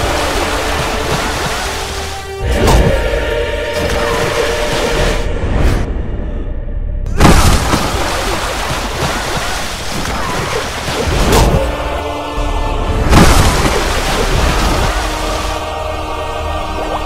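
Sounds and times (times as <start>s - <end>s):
water splashing: 0.0s - 5.2s, 7.2s - 12.2s, 13.0s - 17.0s
film music: 0.0s - 17.0s.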